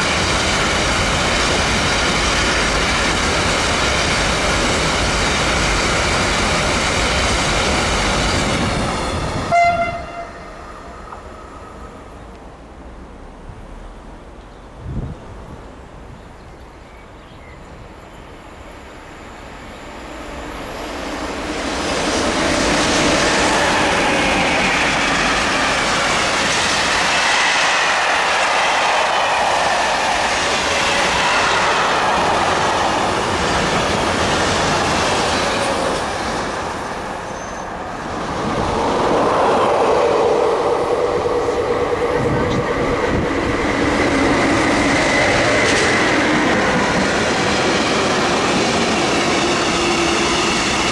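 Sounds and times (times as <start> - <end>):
freight train wheels on rails: 0.0 - 13.1, 14.0 - 50.9.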